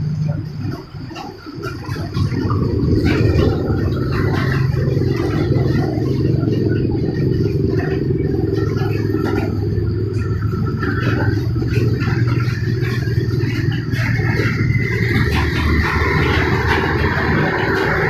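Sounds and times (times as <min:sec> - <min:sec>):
heavy rain: 0:00.0 - 0:18.0
rain patter: 0:00.0 - 0:18.0
wind: 0:00.0 - 0:18.0.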